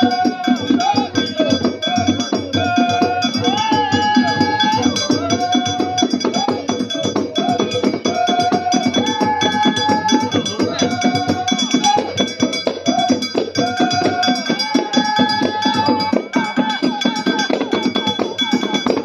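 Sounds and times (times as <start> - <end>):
fast dense percussion: 0.0 - 19.0.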